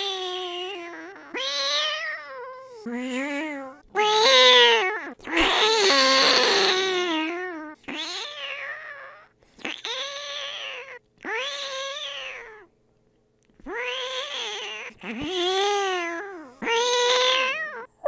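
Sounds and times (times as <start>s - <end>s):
person imitating cat meows: 0.0s - 12.6s, 13.6s - 18.0s.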